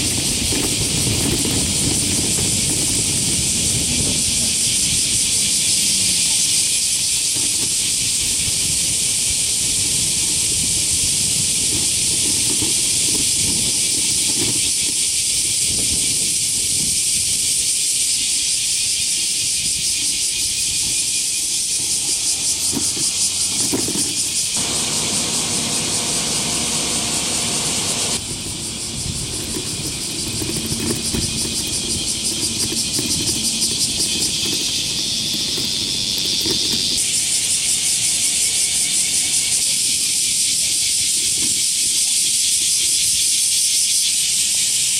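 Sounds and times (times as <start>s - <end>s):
cicadas chorus: 0.0s - 44.9s.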